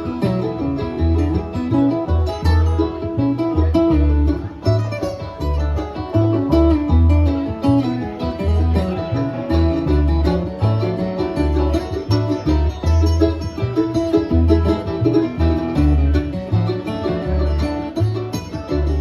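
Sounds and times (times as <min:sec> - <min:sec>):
bluegrass string band playing: 0:00.0 - 0:19.0.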